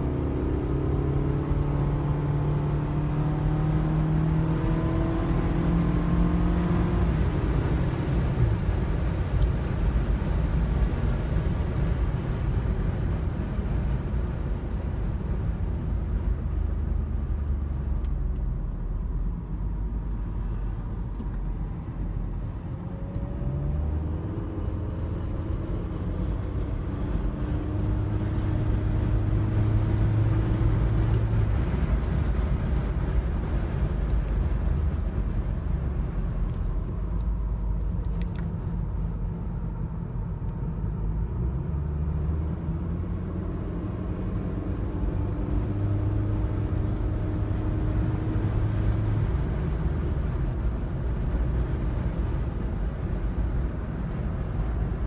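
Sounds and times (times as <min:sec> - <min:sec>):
car engine drone: 0:00.0 - 0:55.0
tyre and road noise: 0:00.0 - 0:55.0.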